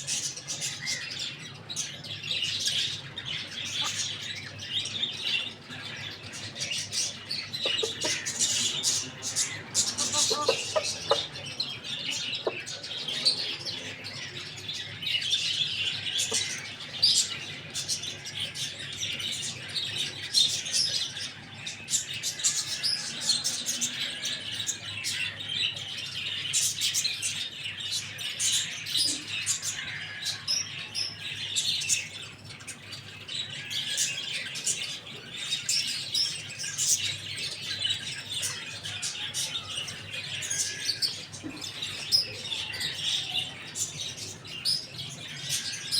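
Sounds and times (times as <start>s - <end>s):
small birds chirping and twittering: 0.0s - 45.9s.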